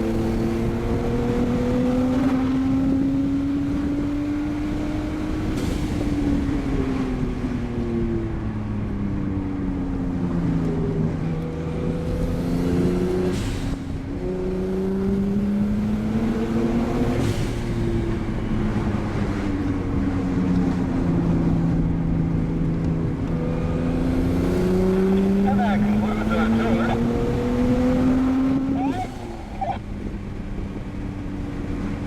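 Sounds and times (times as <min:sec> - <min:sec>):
car engine revving through gears: 0:00.0 - 0:07.8, 0:10.4 - 0:21.9, 0:22.5 - 0:32.0.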